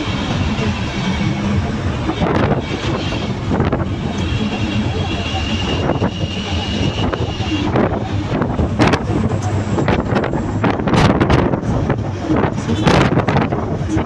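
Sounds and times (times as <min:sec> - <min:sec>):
diesel engine running: 0:00.0 - 0:14.0
road and wind noise: 0:00.0 - 0:14.0
wind buffets and rattles: 0:00.0 - 0:14.0.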